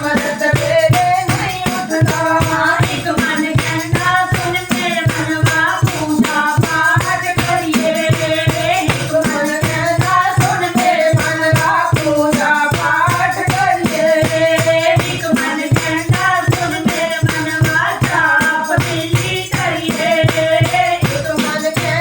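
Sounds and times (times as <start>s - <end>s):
jingling hand percussion: 0.0s - 22.0s.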